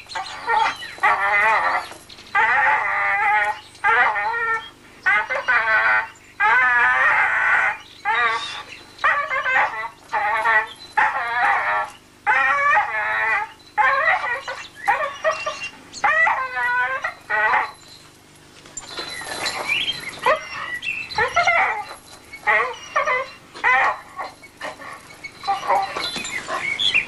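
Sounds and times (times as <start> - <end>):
dog whining and yelping: 0.0 - 27.0.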